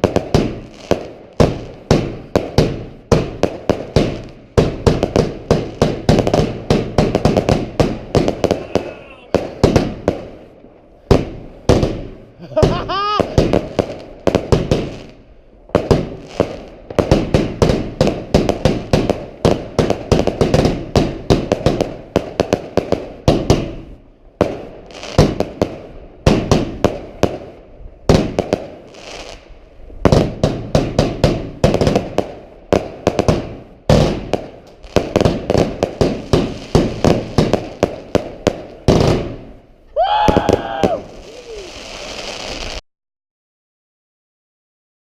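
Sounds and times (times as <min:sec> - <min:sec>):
fireworks cracks and bangs: 0:00.0 - 0:42.8.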